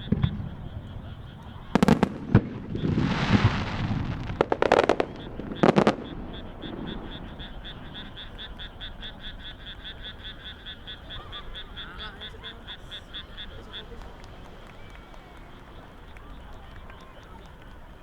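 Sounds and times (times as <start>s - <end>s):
fireworks bursting and crackling: 0.0s - 18.0s
frog calling: 0.0s - 18.0s.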